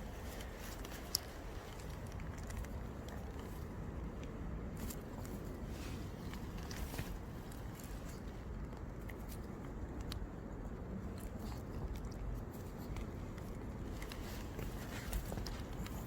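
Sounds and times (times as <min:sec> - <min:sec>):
dog chewing and tearing grass: 0:00.0 - 0:16.0
low outdoor rumble: 0:00.0 - 0:16.0.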